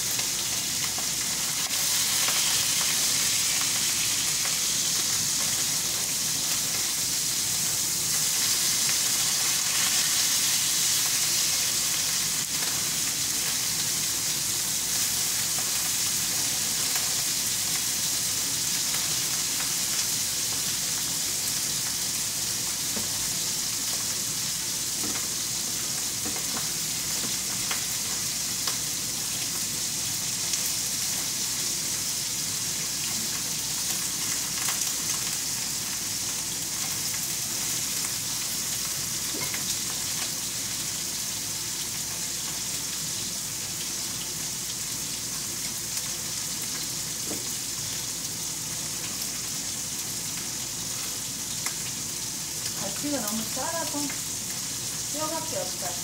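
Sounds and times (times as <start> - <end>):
fish sizzling in oil: 0.0 - 56.0.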